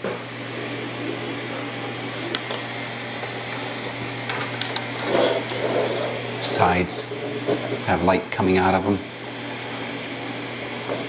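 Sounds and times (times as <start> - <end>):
small machine whirring: 0.0 - 11.0.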